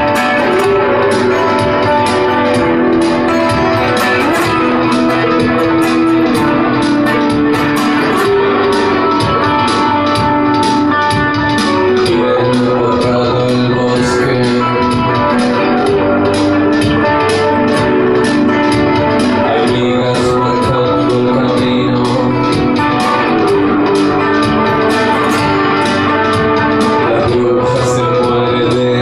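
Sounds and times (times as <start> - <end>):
guitar: 0.0 - 29.0
steady drum beat: 0.0 - 29.0.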